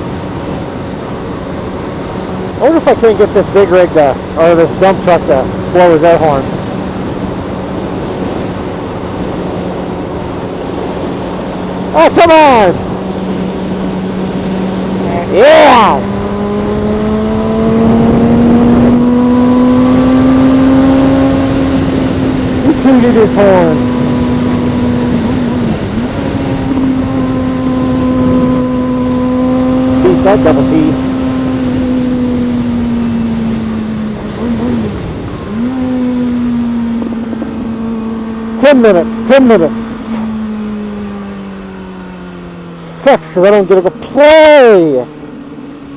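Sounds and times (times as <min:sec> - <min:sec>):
motorcycle engine accelerating: 0:00.0 - 0:45.9
rushing wind noise: 0:00.0 - 0:45.9.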